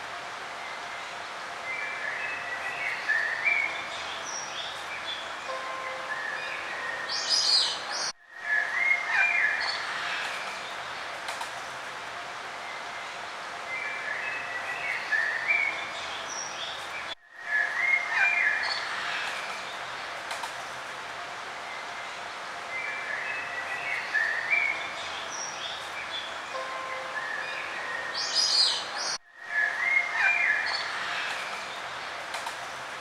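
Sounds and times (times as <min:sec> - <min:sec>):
outdoor background hiss: 0:00.0 - 0:33.0
songbirds chirping: 0:00.0 - 0:33.0.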